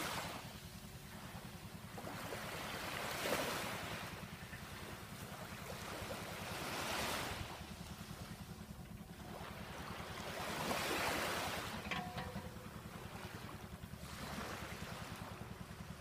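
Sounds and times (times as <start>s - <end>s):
small waves washing on beach: 0.0s - 16.0s
low steady hum: 0.1s - 16.0s.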